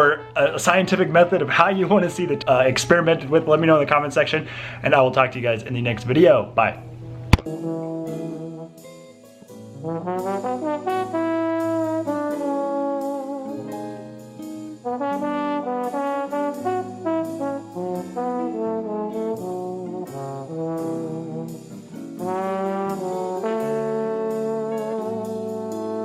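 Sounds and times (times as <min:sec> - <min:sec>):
brass music melody: 0:00.0 - 0:04.4, 0:06.0 - 0:26.0.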